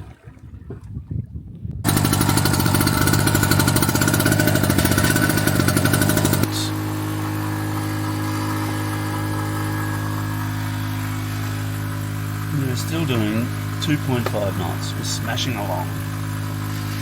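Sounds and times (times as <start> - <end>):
two-stroke generator engine starting: 1.8 - 17.0.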